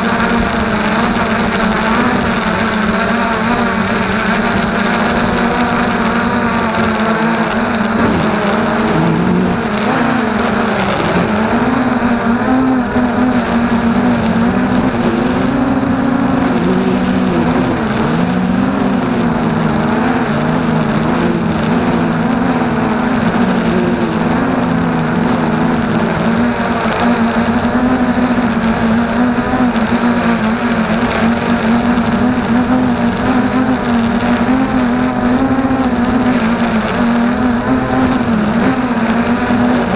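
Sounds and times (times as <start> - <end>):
quadcopter propellers whirring: 0.0 - 39.9.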